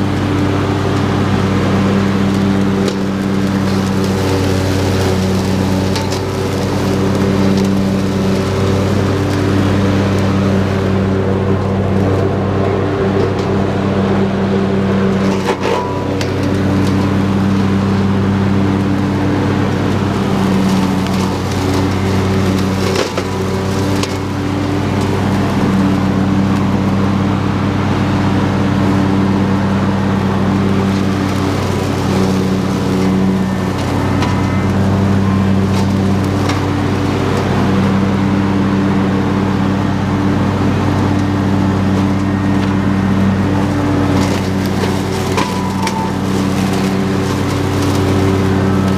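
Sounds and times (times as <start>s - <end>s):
lawn tractor engine running: 0.0s - 48.9s.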